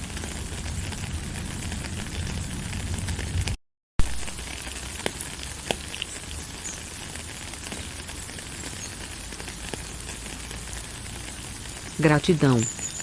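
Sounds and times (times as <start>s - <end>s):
steady rain falling: 0.0s - 13.0s
raindrop clicks: 0.1s - 6.2s, 7.1s - 13.0s.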